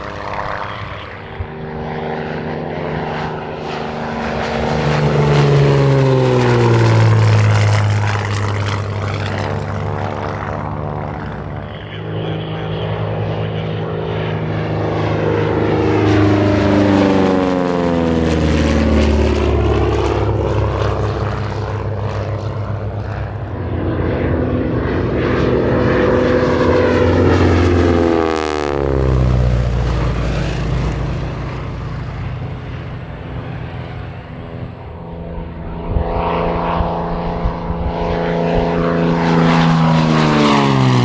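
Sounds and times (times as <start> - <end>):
propeller plane flying past: 0.0 - 41.0.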